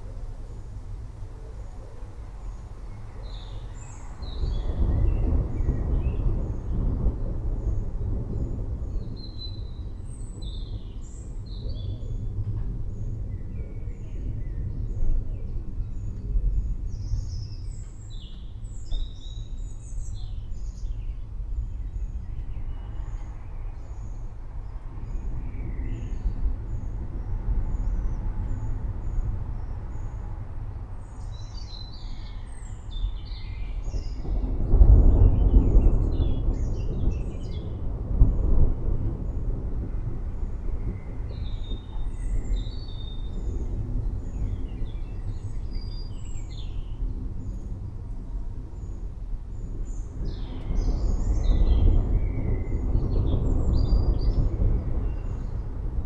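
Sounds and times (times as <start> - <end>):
rolling thunder: 0.0 - 56.0.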